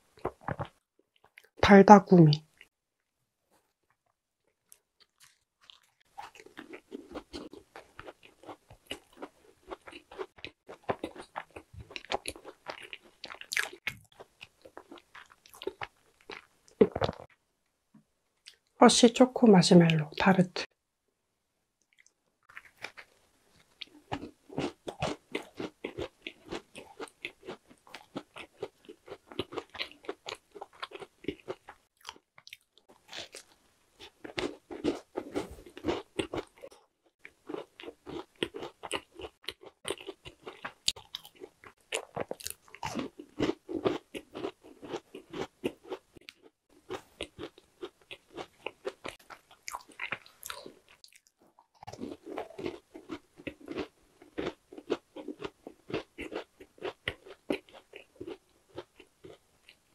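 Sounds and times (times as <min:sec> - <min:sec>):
crunching and chewing: 0:02.5 - 0:17.4, 0:21.9 - 0:59.9.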